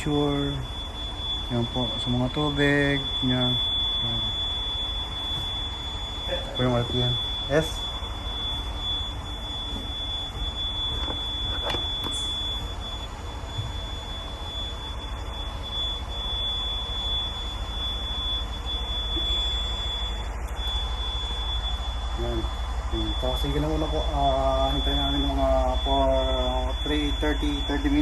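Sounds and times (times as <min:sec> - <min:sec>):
diesel engine running: 0:00.0 - 0:28.0
high-pitched tone: 0:00.0 - 0:28.0.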